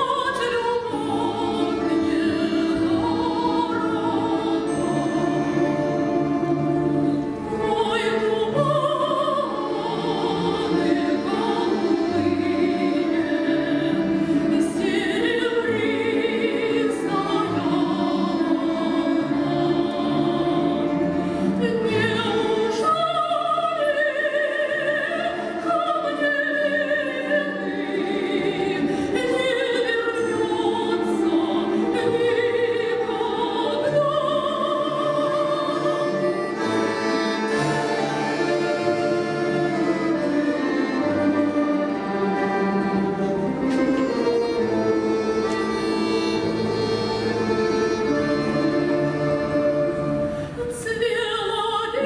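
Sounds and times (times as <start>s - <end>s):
woman singing operatically: 0.0s - 42.7s, 50.5s - 52.0s
folk instrument orchestra: 0.0s - 52.0s.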